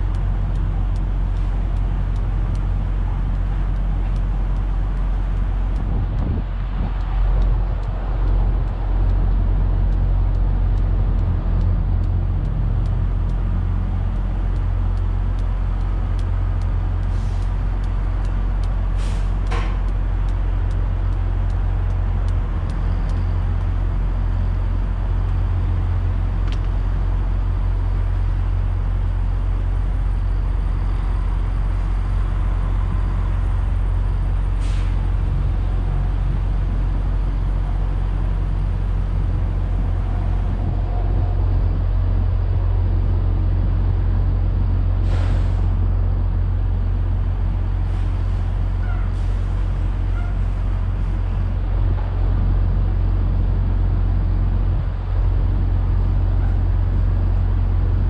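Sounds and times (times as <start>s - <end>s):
low mechanical rumble: 0.0s - 58.0s.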